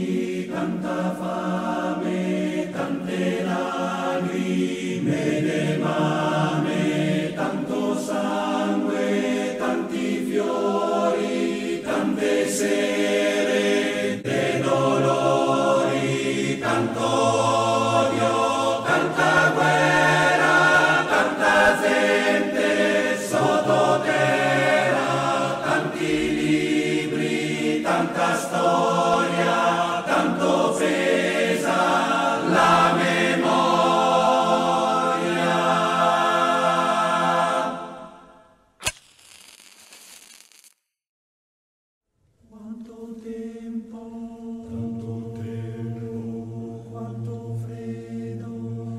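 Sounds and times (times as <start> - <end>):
men's choir singing a cappella: 0.0 - 38.3, 42.5 - 48.9.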